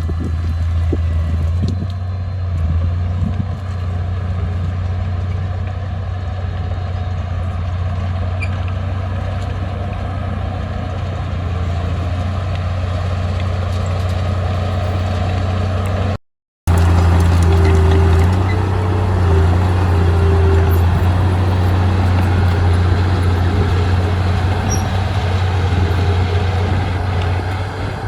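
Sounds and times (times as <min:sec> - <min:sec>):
heavy diesel engine droning: 0:01.0 - 0:28.0.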